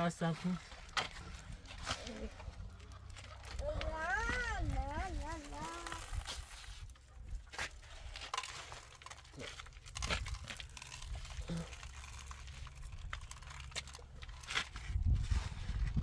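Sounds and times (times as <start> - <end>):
crinkling and crackling: 0.0 - 16.0.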